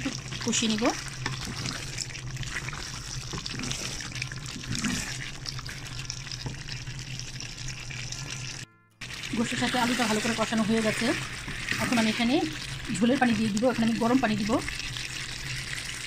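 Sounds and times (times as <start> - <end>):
curry sizzling and bubbling: 0.0 - 16.0
wooden spatula stirring: 0.0 - 16.0.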